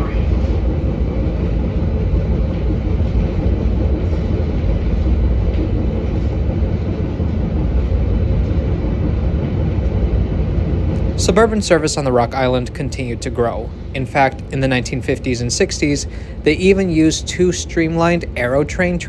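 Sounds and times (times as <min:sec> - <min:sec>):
train rumbling inside passenger car: 0:00.0 - 0:19.0.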